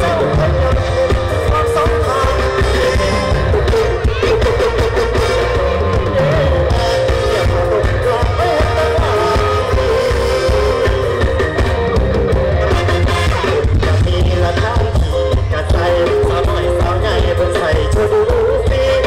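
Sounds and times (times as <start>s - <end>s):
person singing: 0.0s - 11.8s, 12.6s - 19.0s
electric guitar: 0.0s - 19.0s
heavy bass and drum beat: 0.0s - 19.0s
keyboard: 0.0s - 19.0s
stage band playing through a pa: 0.0s - 19.0s.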